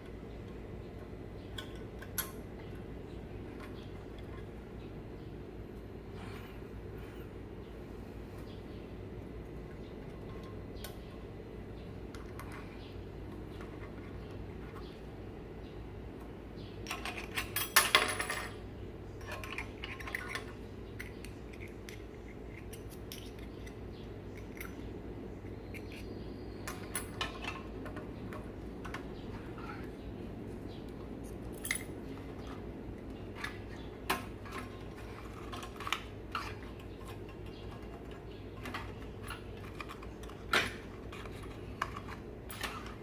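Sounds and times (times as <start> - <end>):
low background noise: 0.0 - 43.0.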